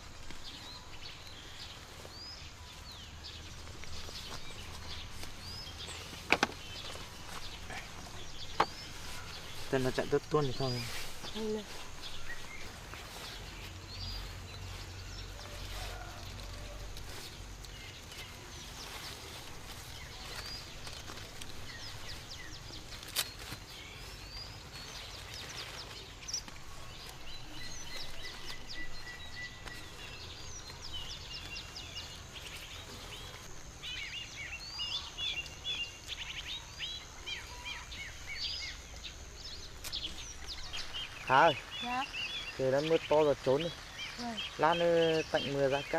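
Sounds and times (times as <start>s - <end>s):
small birds chirping: 0.0s - 45.9s
steady background hiss: 0.0s - 45.9s.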